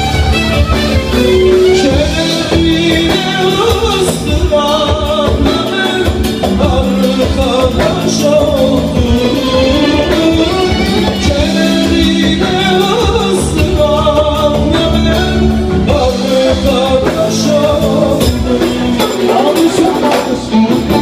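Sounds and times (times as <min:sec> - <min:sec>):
live band playing a song: 0:00.0 - 0:21.0
person singing: 0:00.0 - 0:21.0.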